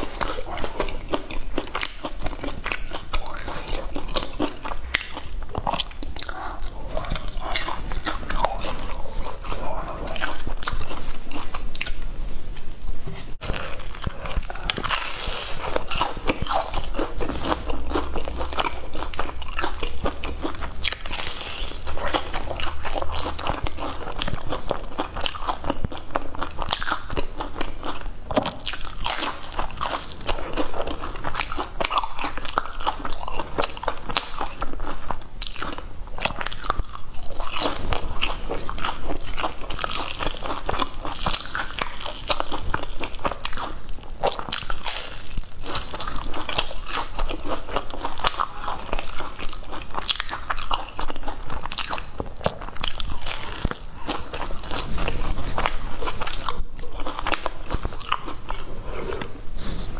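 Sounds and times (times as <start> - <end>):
person chewing crisp food: 0.0 - 59.9.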